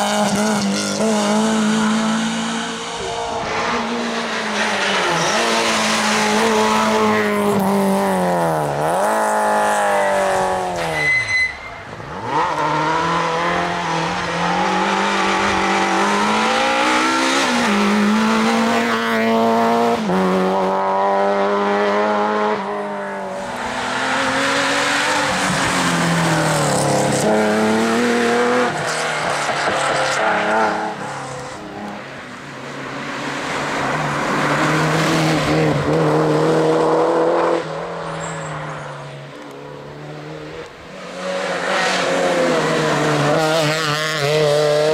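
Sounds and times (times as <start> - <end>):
rally car engine revving: 0.0 - 11.0, 11.9 - 44.9.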